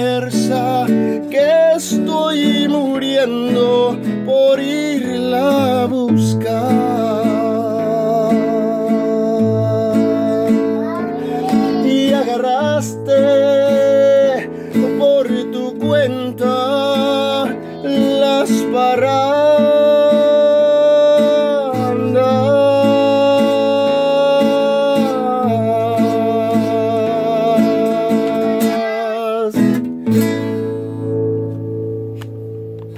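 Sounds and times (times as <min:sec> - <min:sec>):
man singing with vibrato: 0:00.0 - 0:29.8
classical guitar strummed: 0:00.0 - 0:32.9.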